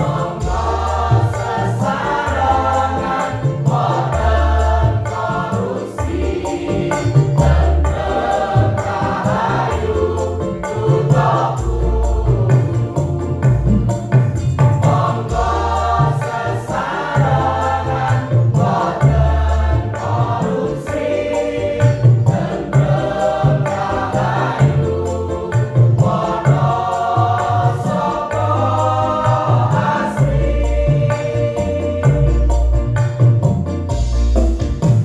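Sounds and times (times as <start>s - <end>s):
mixed choir singing: 0.0s - 33.2s.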